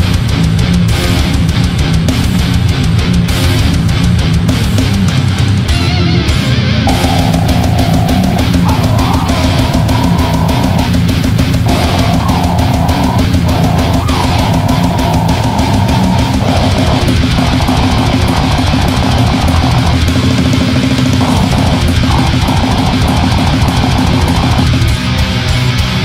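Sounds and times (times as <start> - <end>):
distorted electric guitars: 0.0 - 26.0
drum kit rapid beats: 0.0 - 26.0.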